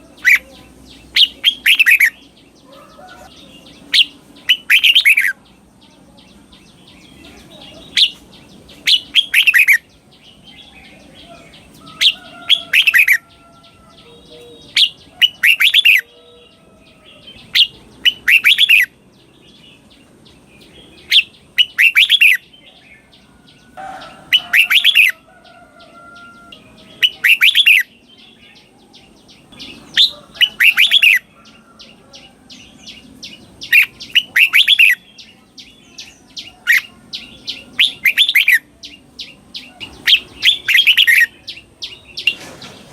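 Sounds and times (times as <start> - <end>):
faint bird chirps: 0.0 - 42.9.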